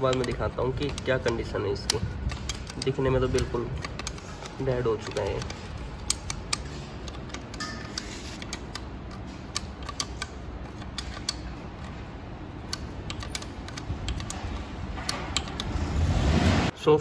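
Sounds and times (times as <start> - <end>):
light metal clicks and taps: 0.0 - 11.9, 12.7 - 15.7.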